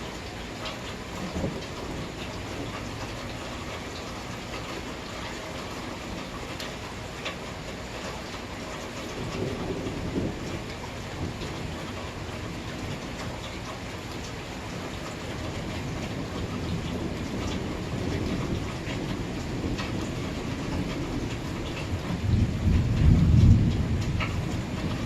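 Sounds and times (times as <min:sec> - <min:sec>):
low rumble of thunder: 0:00.0 - 0:07.4, 0:08.0 - 0:25.0
steady rain falling: 0:00.0 - 0:25.0.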